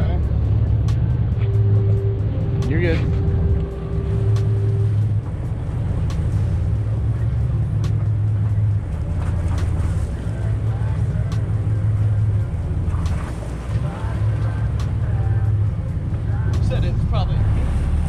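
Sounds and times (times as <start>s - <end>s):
boat engines droning: 0.0s - 18.0s.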